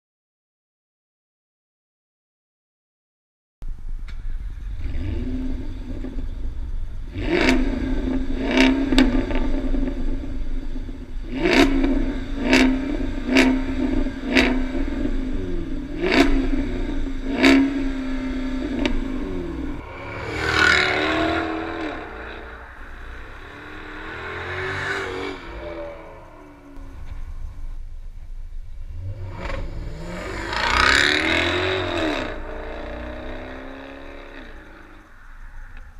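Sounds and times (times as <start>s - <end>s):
car engine idling: 3.6s - 35.9s
engine revving with exhaust cracks: 4.0s - 35.1s
car accelerating away: 4.0s - 35.9s.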